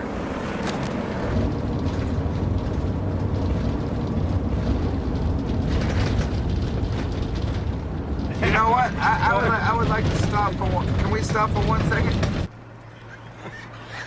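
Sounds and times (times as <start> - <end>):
engine running with low rumble: 0.0 - 14.0
road noise: 0.0 - 14.0.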